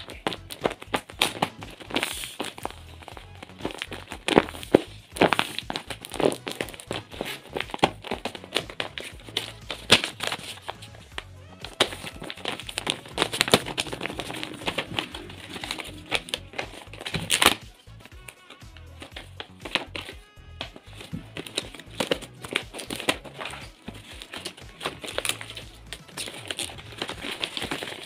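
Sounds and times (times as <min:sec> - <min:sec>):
background music: 0:00.0 - 0:28.0
paper sheet rustling: 0:00.0 - 0:28.0
plastic film crinkling: 0:00.0 - 0:28.0.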